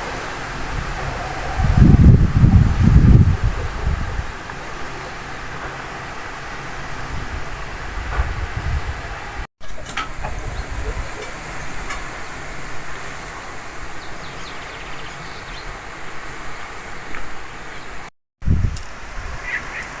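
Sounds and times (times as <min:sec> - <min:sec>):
strong wind blowing: 0:00.0 - 0:09.5, 0:10.1 - 0:16.6, 0:18.4 - 0:19.8.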